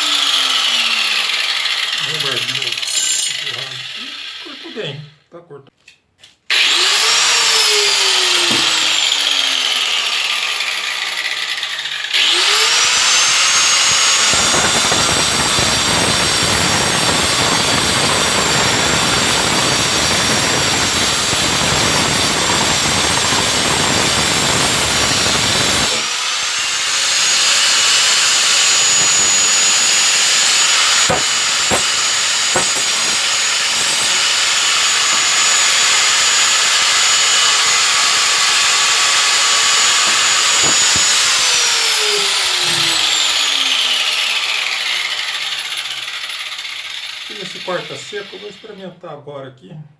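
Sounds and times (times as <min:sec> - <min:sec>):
circular saw motor: 0:00.0 - 0:05.0, 0:06.5 - 0:49.0
saw cutting through metal: 0:00.0 - 0:05.1, 0:06.5 - 0:49.0.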